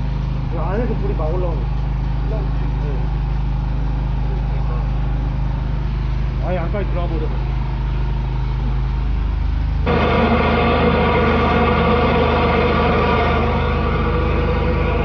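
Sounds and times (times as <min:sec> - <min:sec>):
drain jetter engine running: 0:00.0 - 0:15.0.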